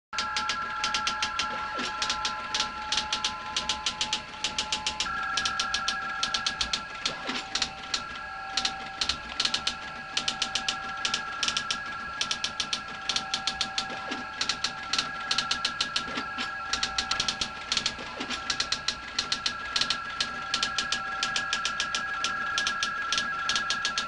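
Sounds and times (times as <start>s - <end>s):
steady high tones: 0.2s - 24.0s
teleprinter typing clicks: 0.2s - 24.0s.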